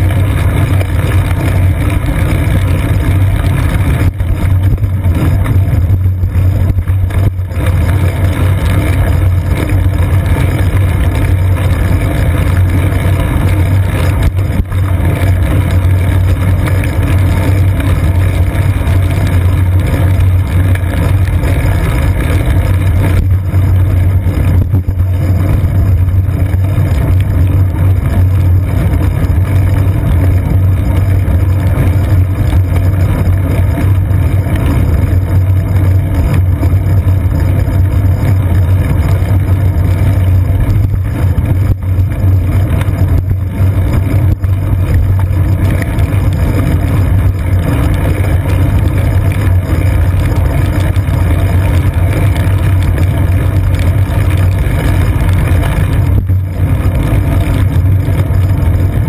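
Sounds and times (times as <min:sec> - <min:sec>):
bicycle road rumble on wet pavement: 0:00.0 - 0:59.0
wind noise: 0:00.0 - 0:59.0.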